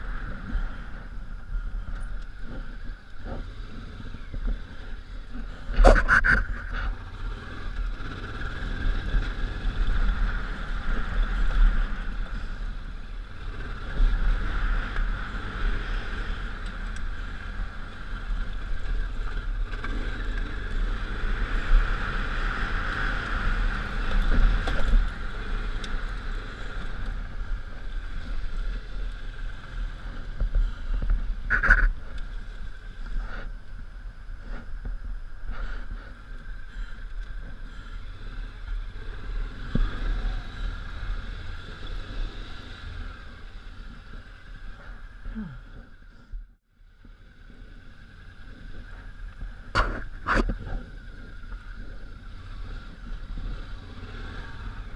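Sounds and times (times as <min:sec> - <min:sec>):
motorcycle engine rumbling: 0:00.0 - 0:54.9
wind: 0:00.0 - 0:54.9.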